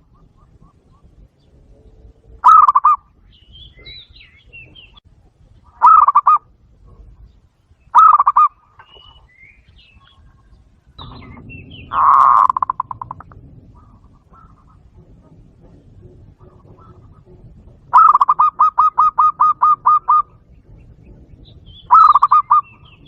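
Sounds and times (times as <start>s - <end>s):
dove cooing: 0.0s - 5.0s, 5.7s - 7.3s, 7.9s - 9.2s, 10.0s - 23.0s
small birds chirping: 0.0s - 23.0s.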